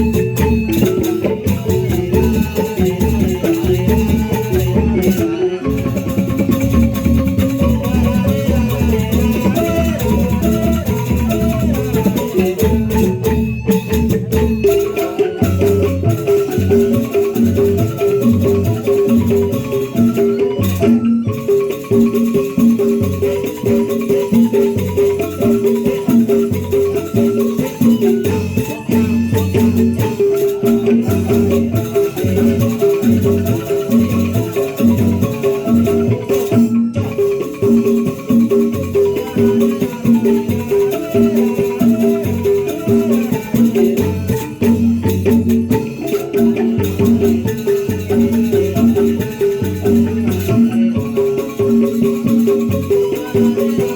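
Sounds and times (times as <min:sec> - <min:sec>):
mallet percussion ensemble music: 0:00.0 - 0:53.9.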